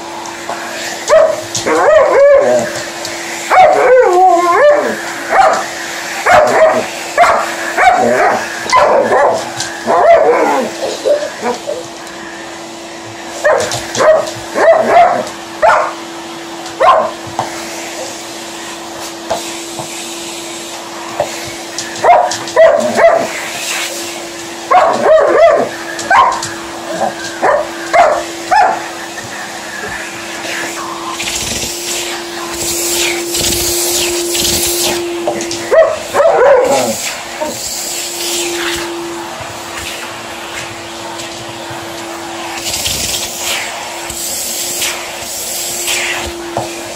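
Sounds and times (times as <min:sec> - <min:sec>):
vacuum cleaner humming: 0:00.0 - 0:46.9.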